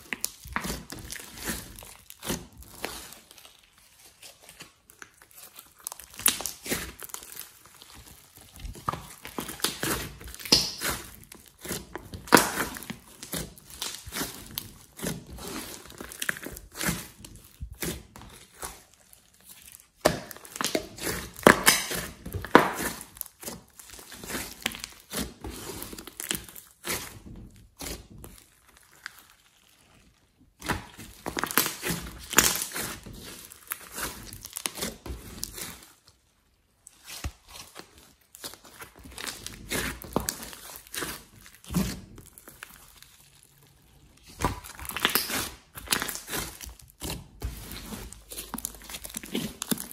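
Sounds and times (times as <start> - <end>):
slime squishing and popping: 0.0 - 36.1, 36.8 - 49.9.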